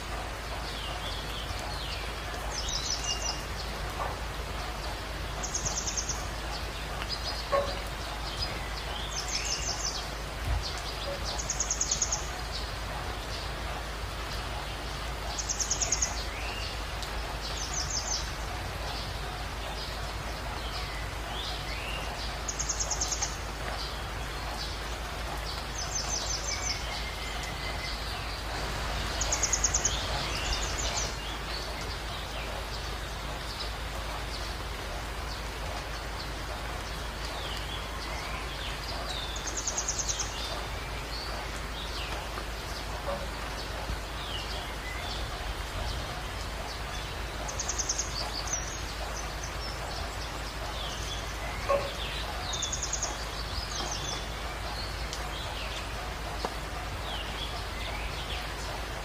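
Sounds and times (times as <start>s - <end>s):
rain hissing: 0.0s - 59.0s
running stream: 0.0s - 59.0s
songbirds trilling and chirping: 0.0s - 59.0s.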